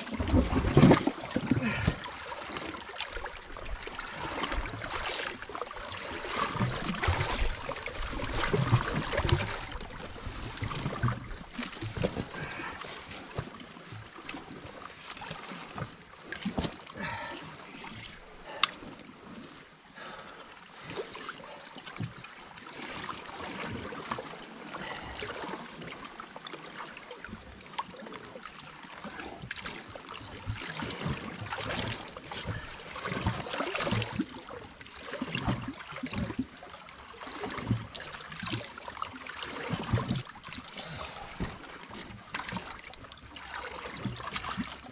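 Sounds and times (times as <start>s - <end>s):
water lapping against rocks: 0.0s - 44.9s.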